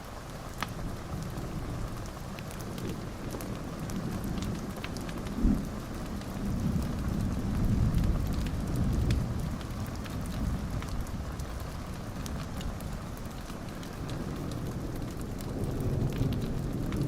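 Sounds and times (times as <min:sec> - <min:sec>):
steady rain: 0:00.0 - 0:17.0
rolling thunder rumble: 0:00.8 - 0:17.0.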